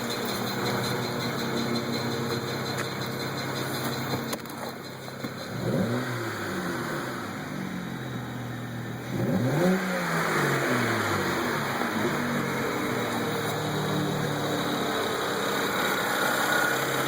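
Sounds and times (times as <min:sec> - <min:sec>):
car engine idling and revving: 0:00.0 - 0:17.0
engine ticking: 0:00.0 - 0:17.0.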